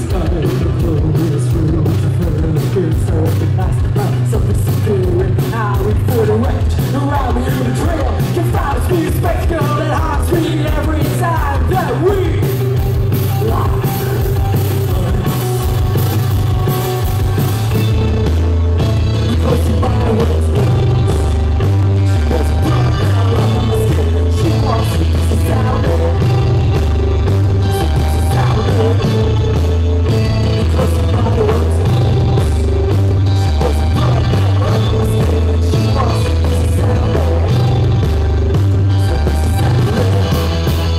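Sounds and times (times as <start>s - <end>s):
pulsing bass line: 0.0s - 40.9s
rock band playing loud: 0.0s - 40.9s.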